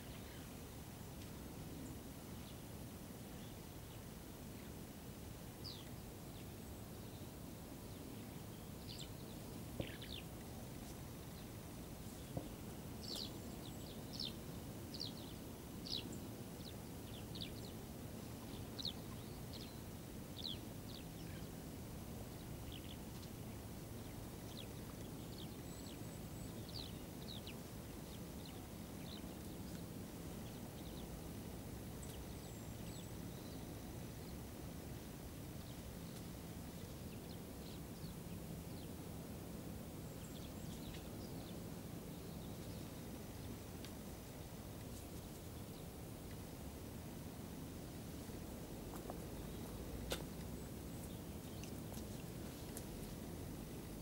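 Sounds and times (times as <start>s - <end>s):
small birds chirping: 0.0s - 0.8s, 5.5s - 39.2s, 39.9s - 54.0s
outdoor background noise: 0.0s - 54.0s.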